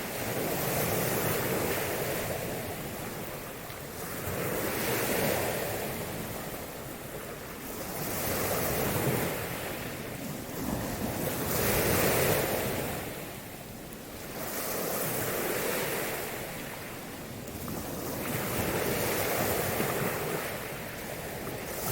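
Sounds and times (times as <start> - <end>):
ocean surf washing: 0.0 - 21.9
wind rumbling on microphone: 0.0 - 21.9.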